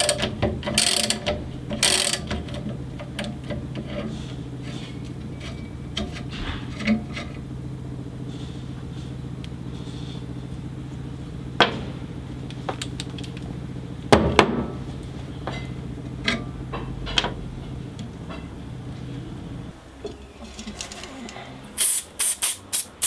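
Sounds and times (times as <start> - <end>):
workshop machine humming: 0.0 - 23.0.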